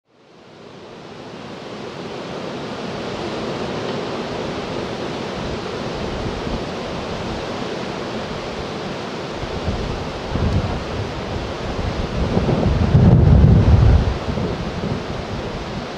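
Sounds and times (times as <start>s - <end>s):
distant jet engines rushing: 0.2s - 15.9s.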